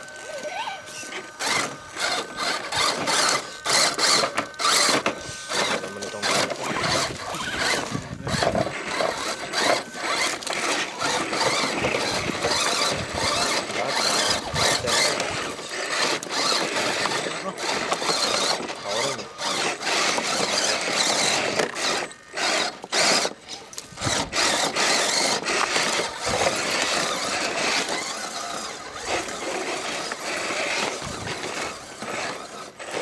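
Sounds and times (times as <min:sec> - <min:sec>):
small electric motors whining: 0:00.0 - 0:33.0.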